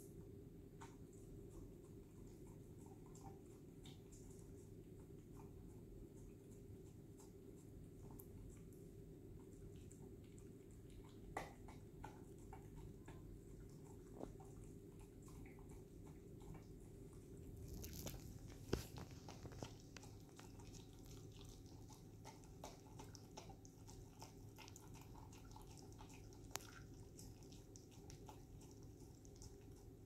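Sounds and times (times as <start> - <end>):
dog chewing and licking: 0.7 - 30.0.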